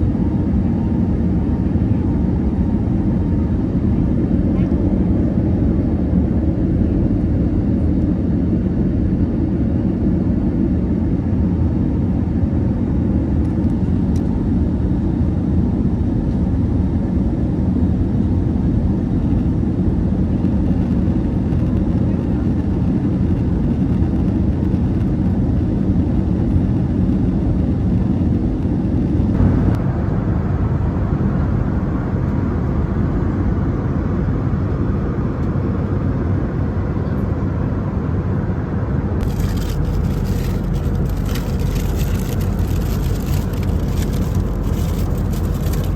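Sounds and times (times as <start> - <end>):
airplane cabin roar in flight: 0.0 - 45.9.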